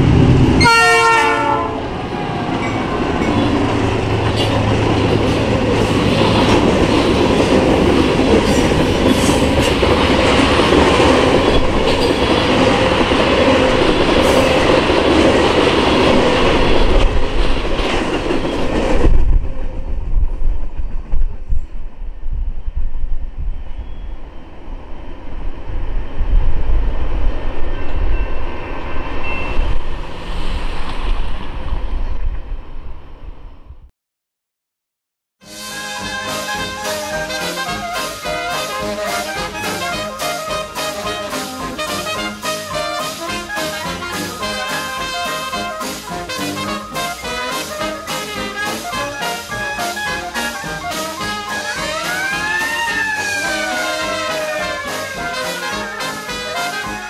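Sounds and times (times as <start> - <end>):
freight train rolling past: 0.0 - 33.7, 35.4 - 57.0.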